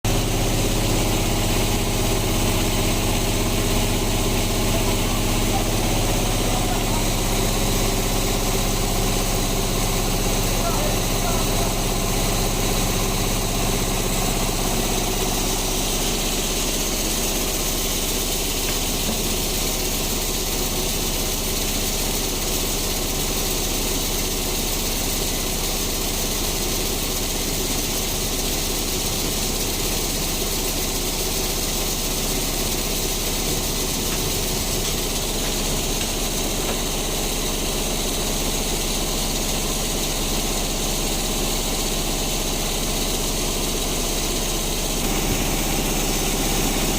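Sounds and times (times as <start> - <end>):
band saw machinery running: 0.0 - 46.9.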